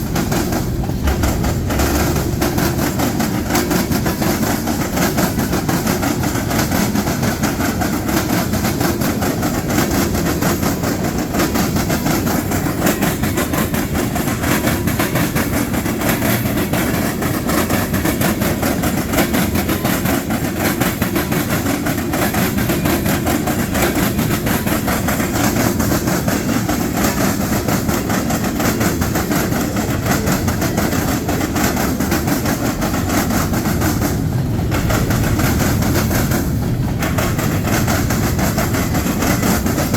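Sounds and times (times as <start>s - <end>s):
freight train wheels rattling on rail: 0.0s - 39.9s.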